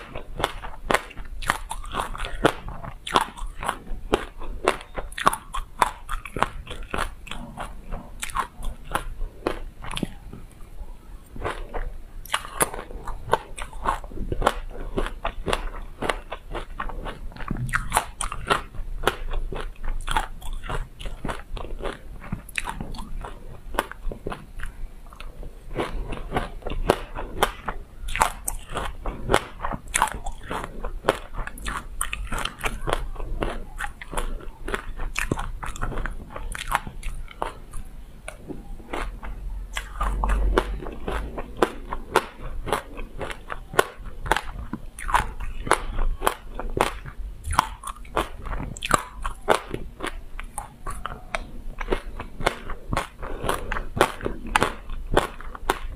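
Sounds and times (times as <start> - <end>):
chewing crunchy seeds: 0.0 - 55.9.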